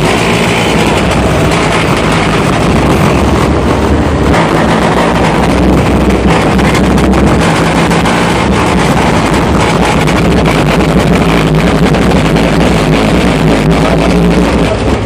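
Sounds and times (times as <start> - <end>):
distorted car stereo bass: 0.0 - 15.0.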